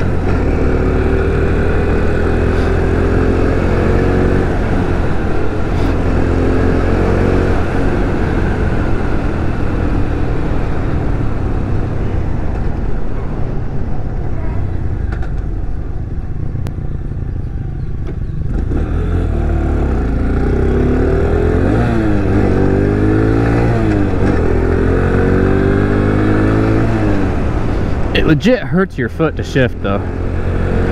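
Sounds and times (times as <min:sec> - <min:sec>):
motorcycle engine revving: 0:00.0 - 0:12.5, 0:15.1 - 0:28.3, 0:29.9 - 0:30.9.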